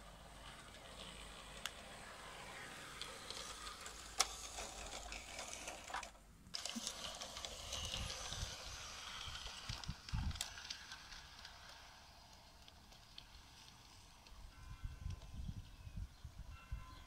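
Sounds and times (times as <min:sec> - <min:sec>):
model locomotive gear whir: 0:00.0 - 0:16.9
wheels clicking on rails: 0:00.0 - 0:17.0.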